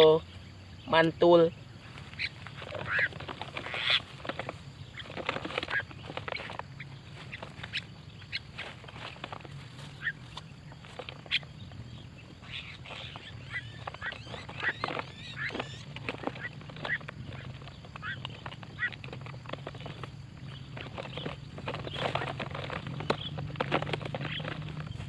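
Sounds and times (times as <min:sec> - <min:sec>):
birds chirping and squawking: 0:00.0 - 0:25.0.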